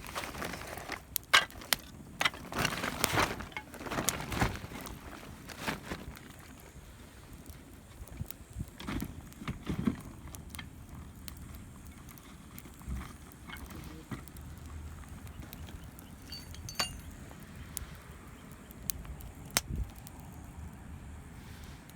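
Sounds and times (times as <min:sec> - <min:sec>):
sharp fire pops: 0:00.0 - 0:20.7
campfire crackling: 0:00.0 - 0:21.9.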